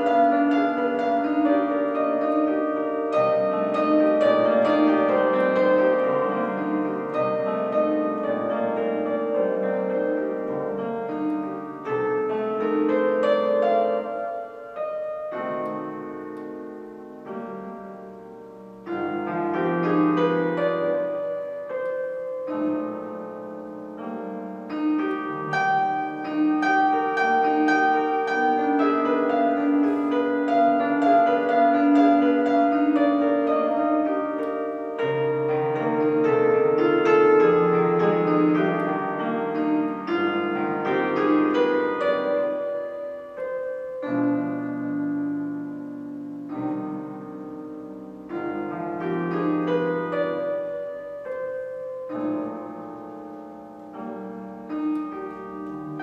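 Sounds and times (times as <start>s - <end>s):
upright piano playing chords: 0.0s - 56.0s.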